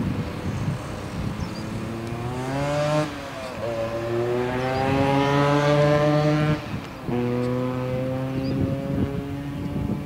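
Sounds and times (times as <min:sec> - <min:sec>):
vehicle engine accelerating: 0:00.2 - 0:10.0.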